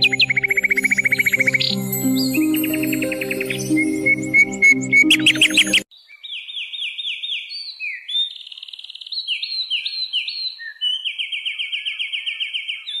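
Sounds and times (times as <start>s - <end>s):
songbird whistling and trilling: 0.0s - 13.0s.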